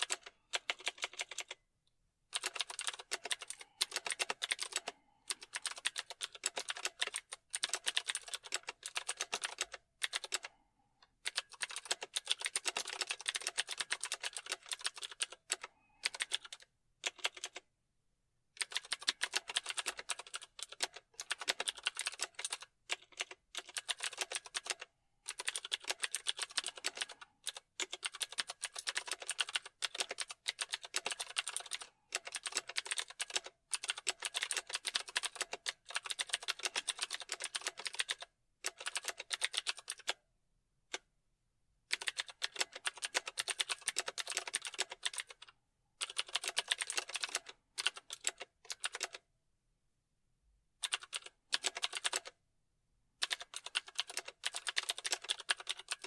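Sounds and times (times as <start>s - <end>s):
computer keyboard typing: 0.0s - 1.6s, 2.3s - 17.7s, 18.6s - 40.2s, 41.9s - 49.3s, 50.8s - 52.4s, 53.2s - 56.0s.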